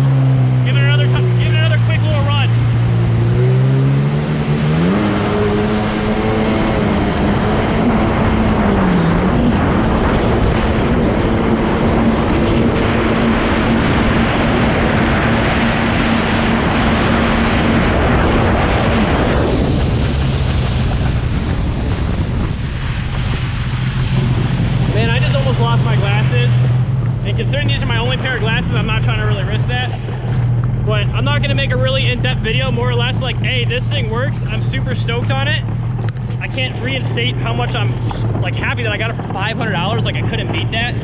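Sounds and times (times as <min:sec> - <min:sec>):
jet ski engine: 0:00.0 - 0:41.0
wind noise on microphone: 0:00.0 - 0:41.0.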